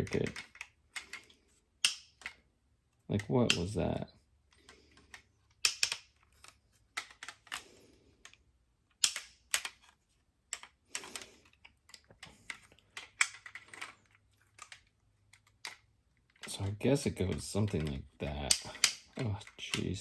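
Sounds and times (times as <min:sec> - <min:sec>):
plastic toy parts clicking: 0:00.0 - 0:20.0.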